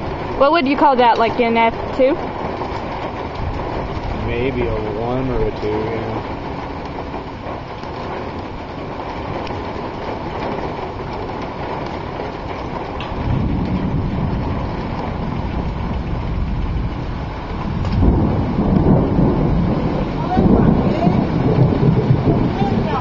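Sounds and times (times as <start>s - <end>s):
rain: 0.0s - 23.0s
thunder rumbling: 0.0s - 23.0s
wind: 0.0s - 23.0s.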